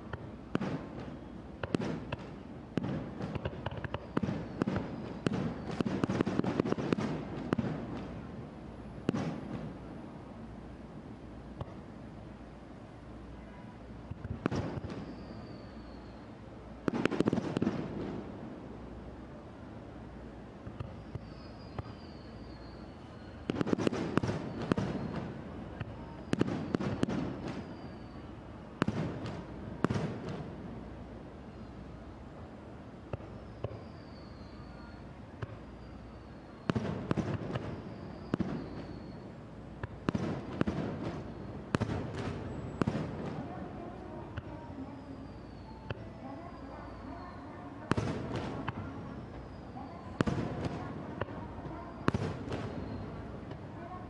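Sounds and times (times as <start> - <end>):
fireworks bangs and crackles: 0.0 - 10.0, 14.0 - 18.8, 20.6 - 30.9, 33.1 - 34.5, 35.4 - 46.0, 47.8 - 54.0.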